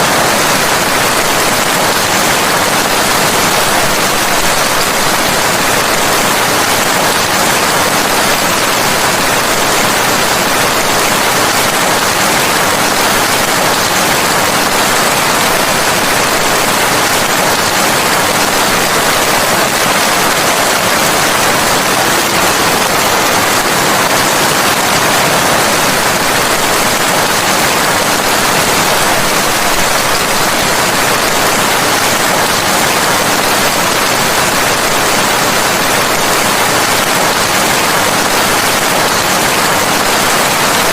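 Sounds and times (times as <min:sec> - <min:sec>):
dense rain hissing: 0:00.0 - 0:40.9.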